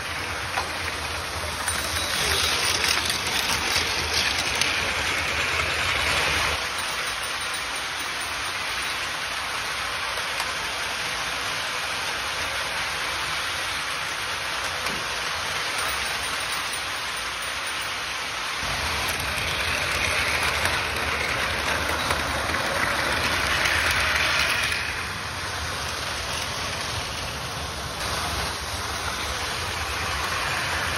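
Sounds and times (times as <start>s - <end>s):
toy trains whirring: 0.0s - 30.9s.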